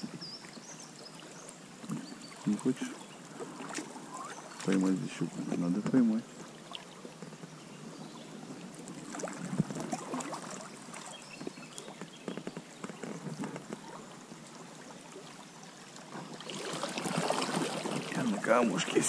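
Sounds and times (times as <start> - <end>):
water lapping around a boat: 0.0 - 19.0.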